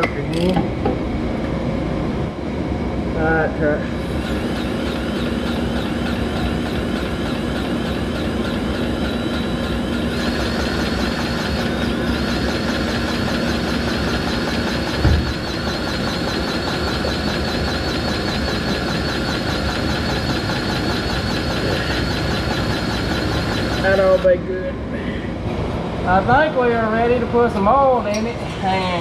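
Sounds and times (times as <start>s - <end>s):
engine running steadily: 0.0s - 29.0s
steady hum: 0.0s - 29.0s.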